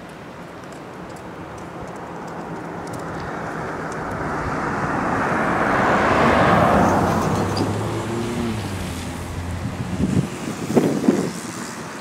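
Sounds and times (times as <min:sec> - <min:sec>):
vehicle tyre and road noise: 0:00.0 - 0:12.0.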